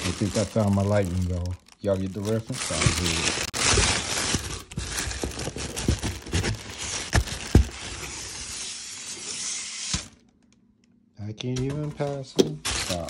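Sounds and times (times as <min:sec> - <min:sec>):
plastic wrapping crinkling: 0:00.0 - 0:10.6, 0:12.0 - 0:13.0.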